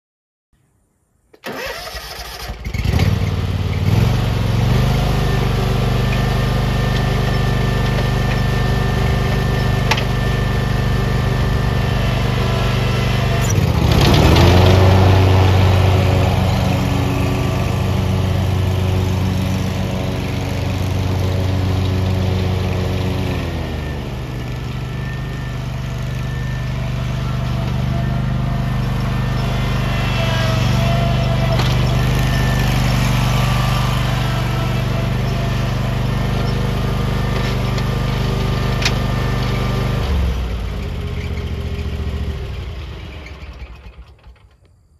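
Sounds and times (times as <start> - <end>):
mower engine starting and running: 1.3 - 44.8.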